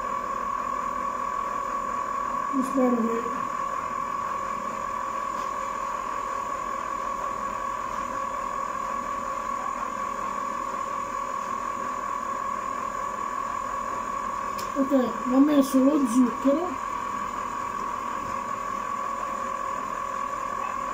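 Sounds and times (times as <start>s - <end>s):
ice cream maker motor hum: 0.0s - 20.9s.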